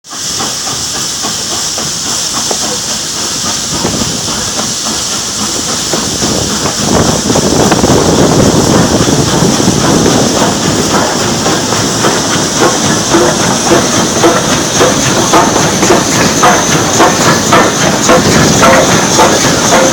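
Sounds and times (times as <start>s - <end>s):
train rumble and wheel clatter: 0.0s - 19.9s.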